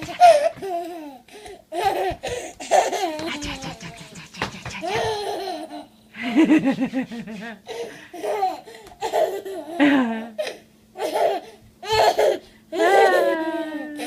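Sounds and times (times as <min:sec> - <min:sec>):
little boy laughing: 0:00.0 - 0:14.0.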